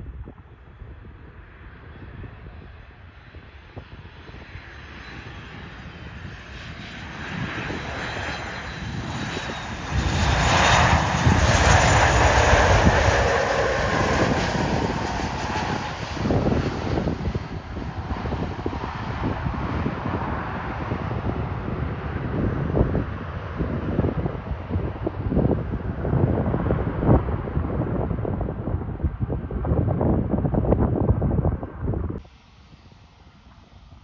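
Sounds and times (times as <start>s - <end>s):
jet engines of landing plane: 0.0s - 34.0s
wind rumbling on microphone: 0.0s - 34.0s.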